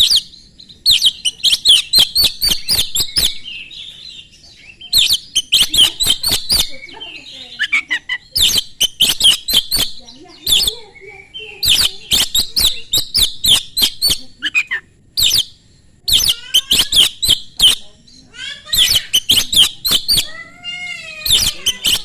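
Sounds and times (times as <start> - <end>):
slurred arching whistles: 0.0 - 3.7, 4.7 - 17.8, 18.6 - 20.4, 21.1 - 22.0
magpie-robin singing: 0.0 - 22.0.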